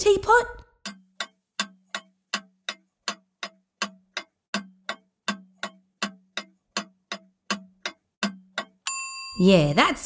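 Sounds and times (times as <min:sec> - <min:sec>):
clock ticking: 0:00.1 - 0:10.0.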